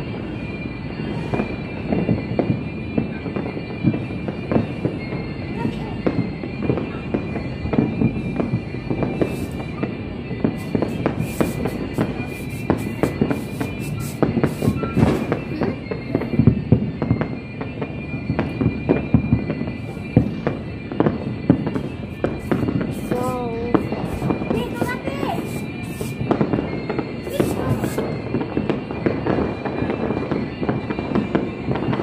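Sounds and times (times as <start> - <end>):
fireworks popping and banging: 0.0 - 32.0.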